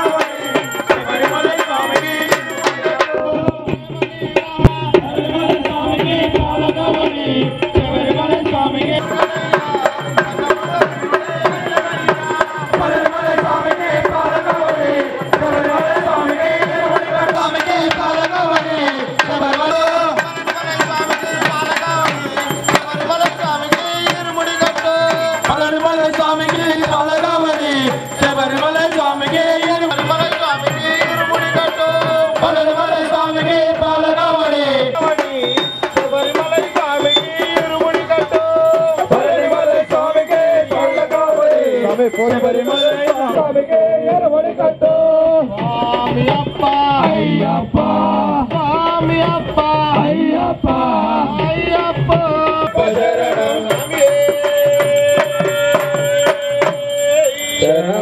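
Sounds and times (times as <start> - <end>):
hand percussion beat: 0.0 - 58.0
men singing devotional song: 0.0 - 58.0.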